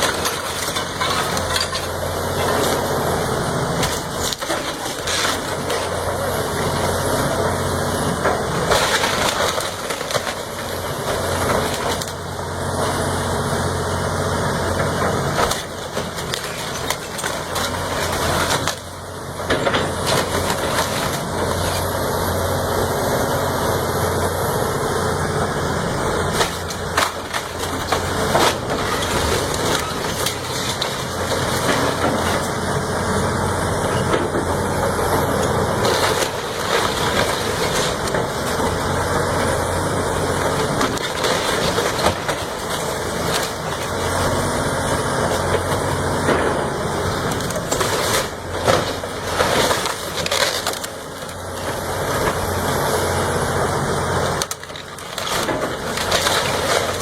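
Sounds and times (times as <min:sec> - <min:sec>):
heavy diesel machinery running: 0:00.0 - 0:57.0
wood crushing and splintering: 0:00.0 - 0:57.0.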